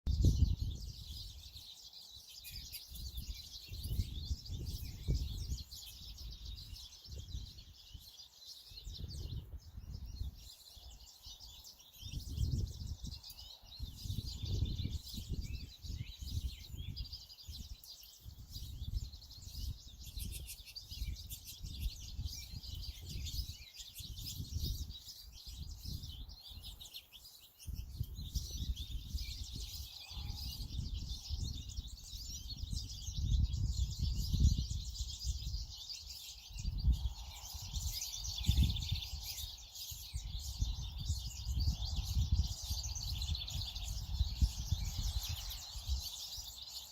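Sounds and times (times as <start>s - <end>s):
birds chirping and singing: 0.1s - 46.9s.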